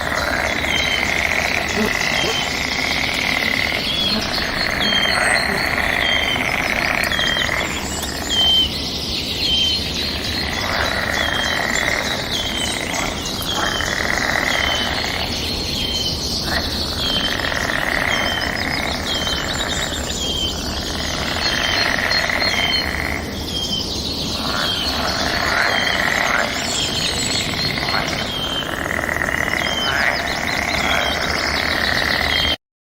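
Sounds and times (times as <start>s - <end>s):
forest birds chirping and singing: 0.0s - 32.6s.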